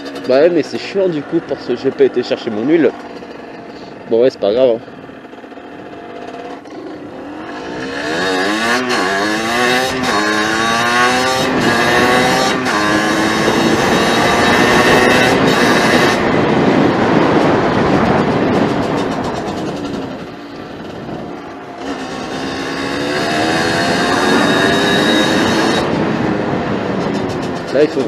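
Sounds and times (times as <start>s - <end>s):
motorbike engine accelerating: 0.0s - 28.0s.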